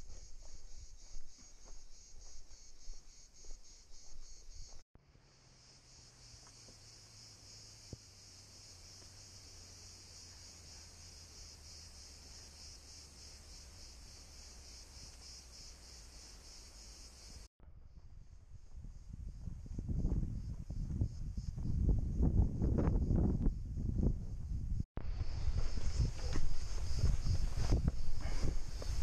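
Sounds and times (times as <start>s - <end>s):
cicadas chorus: 0.0s - 17.5s, 18.9s - 23.8s, 25.0s - 29.0s.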